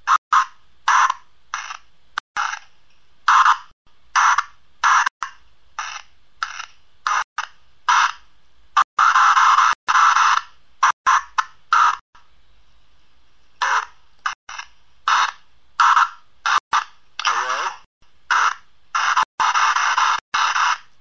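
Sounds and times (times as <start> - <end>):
bursts of hissing static: 0.0 - 5.1, 5.7 - 12.0, 13.6 - 21.0.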